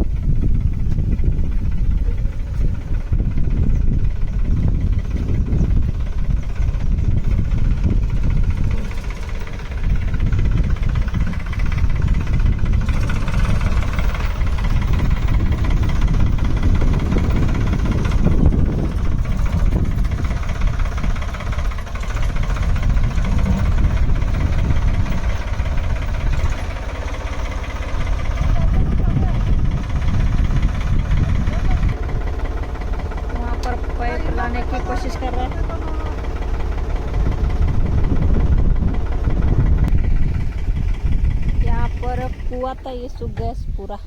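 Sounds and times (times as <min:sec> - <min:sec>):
tractor engine running: 0:00.0 - 0:44.0.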